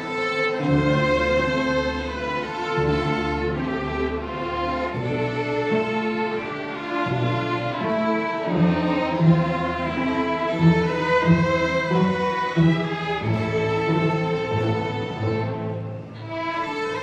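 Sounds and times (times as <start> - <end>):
string orchestra playing: 0.0 - 17.0.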